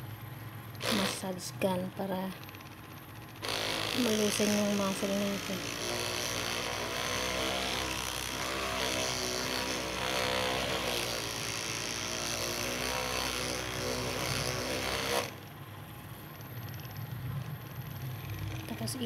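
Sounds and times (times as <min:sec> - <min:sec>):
massage gun motor buzz: 0:00.0 - 0:19.0.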